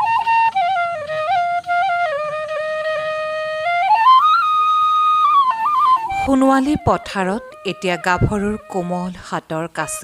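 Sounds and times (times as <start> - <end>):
solo flute slow melody: 0.0 - 10.0.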